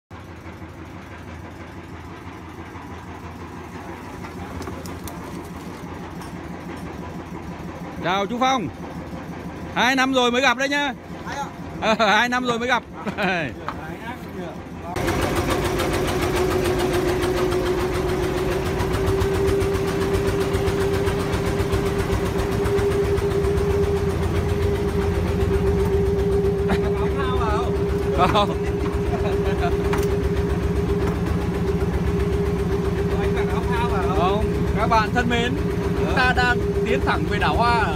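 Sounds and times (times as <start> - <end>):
boat engine idling: 0.1 - 37.9.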